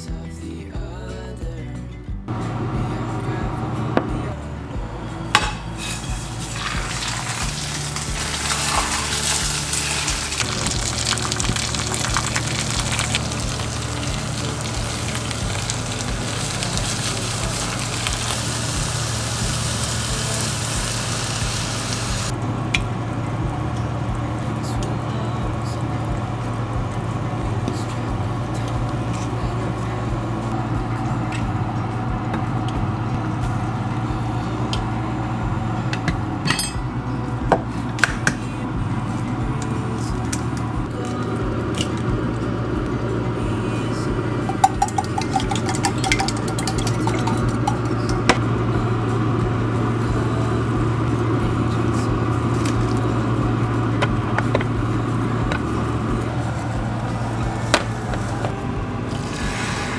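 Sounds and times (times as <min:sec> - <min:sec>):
low hum with rushing noise: 0:00.0 - 0:59.9.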